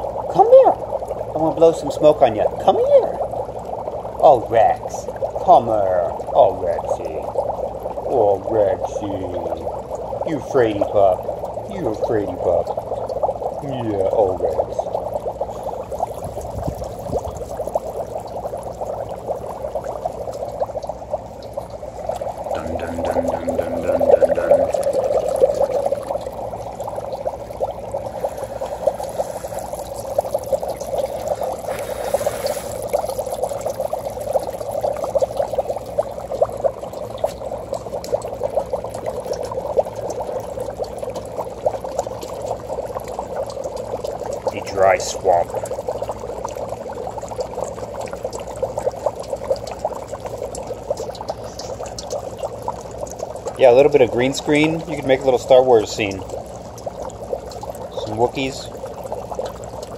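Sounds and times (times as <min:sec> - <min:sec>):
dry ice bubbling in water: 0:00.0 - 0:59.9.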